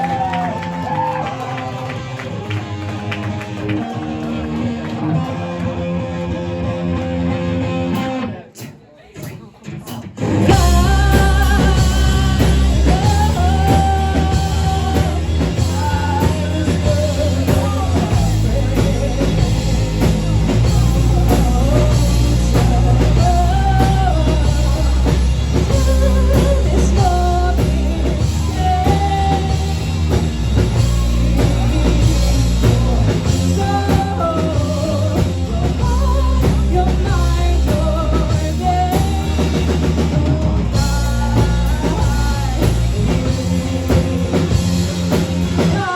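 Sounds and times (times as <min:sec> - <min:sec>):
live rock band playing: 0:00.0 - 0:45.9
person singing: 0:07.9 - 0:45.9.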